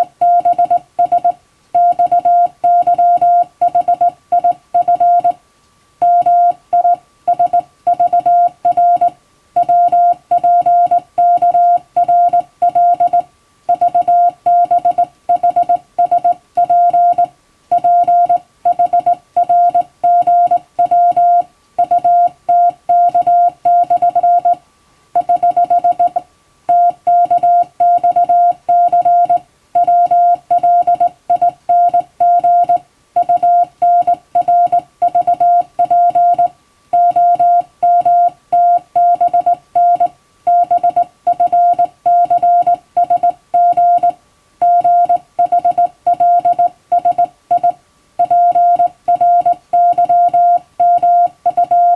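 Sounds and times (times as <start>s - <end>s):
morse code tone: 0.0s - 5.4s, 6.0s - 24.6s, 25.2s - 51.9s.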